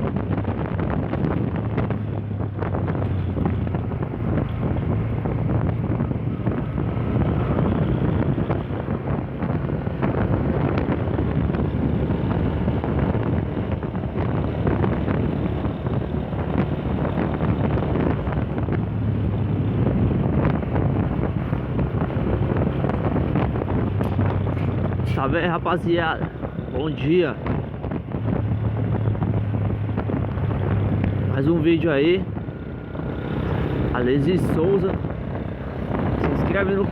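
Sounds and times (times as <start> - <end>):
motorcycle engine running: 0.0 - 25.2, 32.2 - 36.9
wind buffeting microphone: 0.0 - 36.9.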